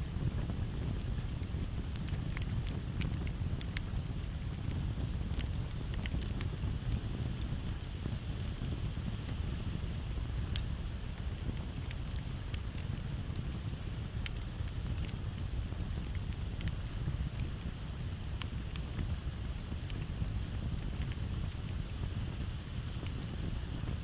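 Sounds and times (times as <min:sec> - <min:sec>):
campfire crackling: 0:00.0 - 0:24.0
cricket trill: 0:00.0 - 0:24.0.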